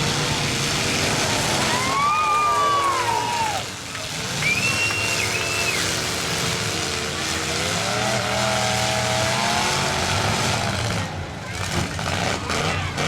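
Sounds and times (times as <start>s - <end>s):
car engines running loud: 0.0s - 13.0s
engine revving: 0.0s - 13.0s.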